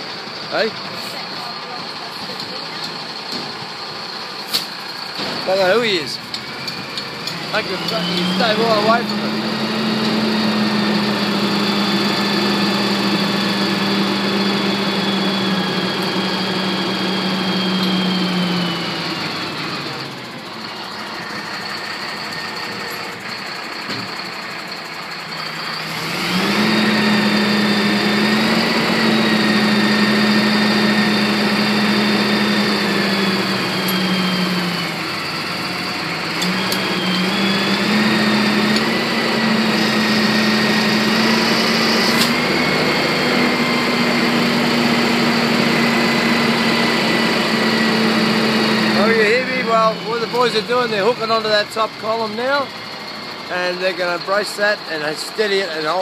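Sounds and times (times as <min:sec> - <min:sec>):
crane engine revving and idling: 0:00.0 - 0:56.0.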